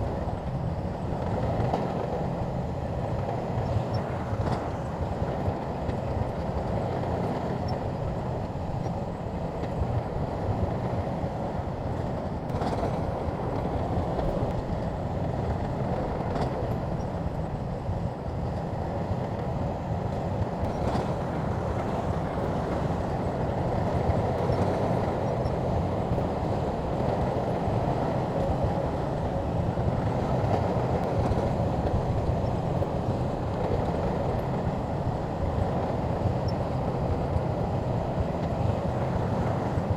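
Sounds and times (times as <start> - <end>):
bulldozer engine and tracks rumbling: 0.0 - 39.9.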